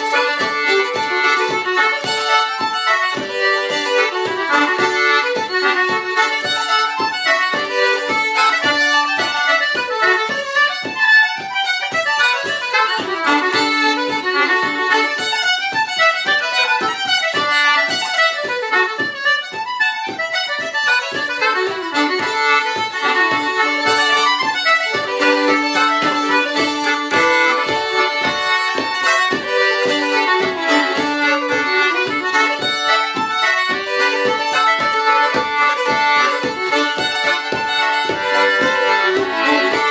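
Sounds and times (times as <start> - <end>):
concertina playing a reel: 0.0 - 39.9
fiddle playing a reel: 0.0 - 39.9.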